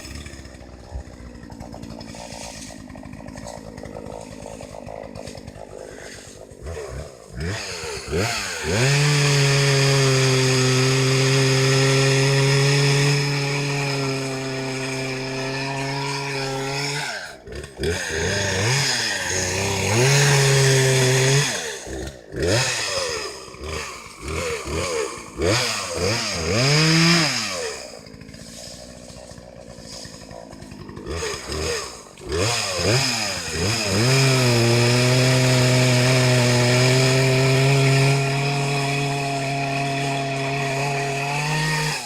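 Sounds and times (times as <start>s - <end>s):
chainsaw engine revving: 0.0s - 42.0s.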